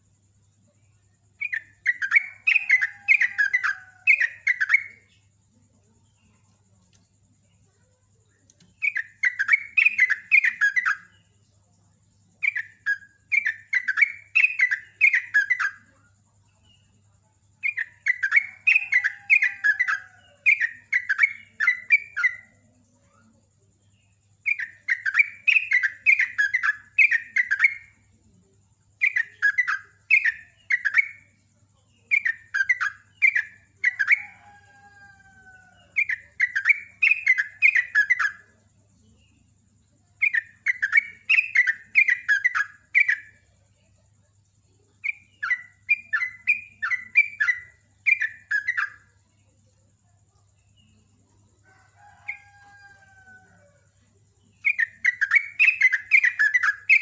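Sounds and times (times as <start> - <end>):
bulbul singing chattering phrases: 0.0 - 57.0.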